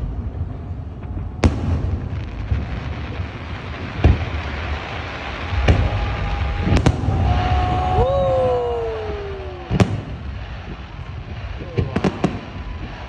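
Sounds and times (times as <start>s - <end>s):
low rumble: 0.0s - 11.8s
firework booms: 0.0s - 13.0s
firework sharp crack: 0.0s - 13.0s.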